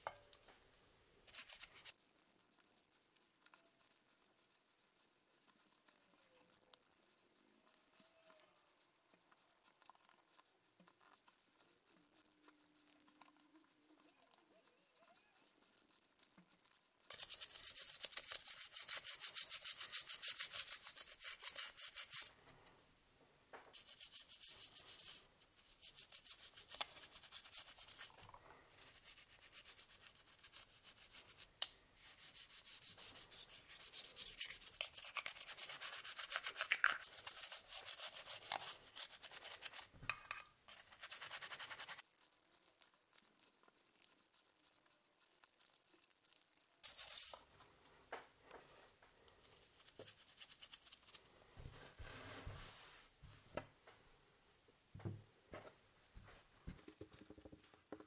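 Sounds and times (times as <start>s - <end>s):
toothbrush scrubbing plastic: 1.2s - 22.4s, 23.7s - 47.5s, 49.4s - 51.3s.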